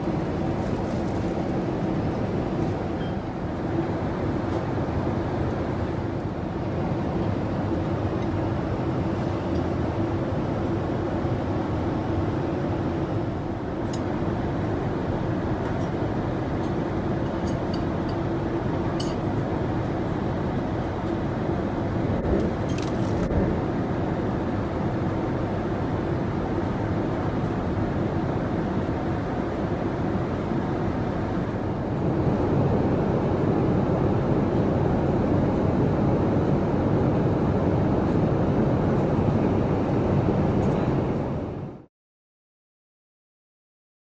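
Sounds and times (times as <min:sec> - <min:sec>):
airliner cabin noise: 0:00.0 - 0:41.8.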